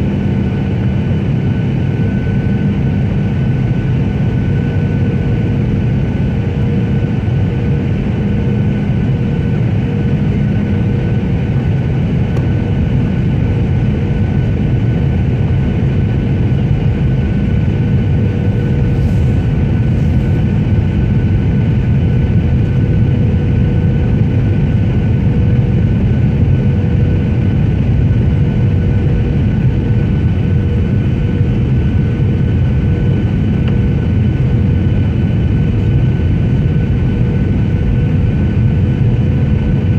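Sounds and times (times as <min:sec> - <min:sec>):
airliner cabin engine rumble: 0:00.0 - 0:39.9
high engine whine: 0:00.0 - 0:39.9.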